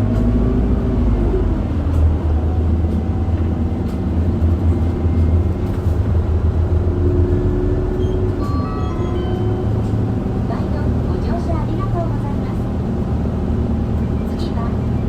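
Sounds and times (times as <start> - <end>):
bus engine humming inside: 0.0 - 15.0.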